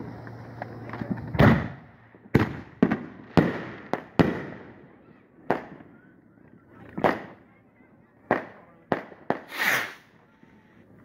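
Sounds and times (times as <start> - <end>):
fireworks bangs: 0.0 - 7.5, 8.2 - 10.4.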